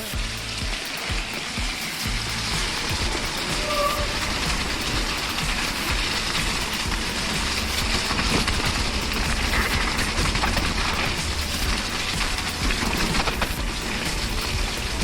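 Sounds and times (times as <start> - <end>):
rushing noise: 0.0 - 15.0.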